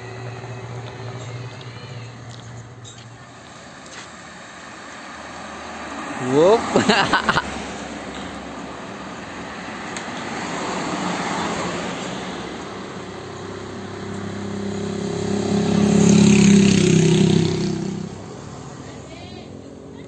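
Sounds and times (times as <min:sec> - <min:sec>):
vehicle engine hum and tyre hiss: 0:00.0 - 0:20.0
vehicles passing: 0:00.0 - 0:20.0.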